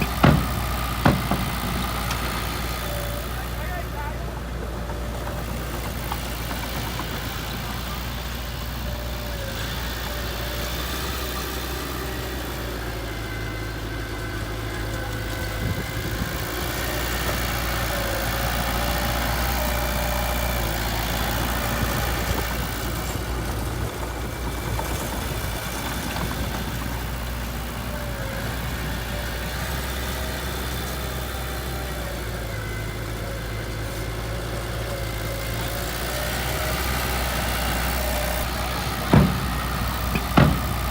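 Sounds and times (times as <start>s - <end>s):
diesel engine running at low revs: 0.0s - 40.9s.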